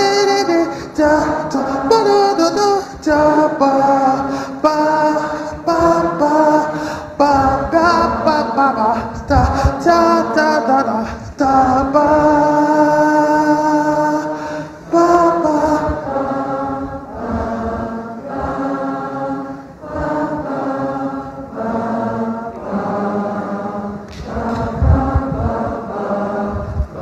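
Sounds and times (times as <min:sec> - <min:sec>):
audience singing in unison: 0:00.0 - 0:27.0.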